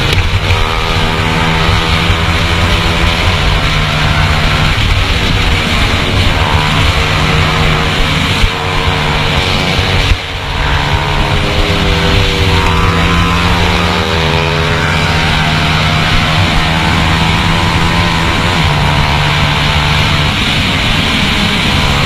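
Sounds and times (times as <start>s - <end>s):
motorcycle engine revving: 0.0s - 22.0s
rush of noise: 0.0s - 22.0s.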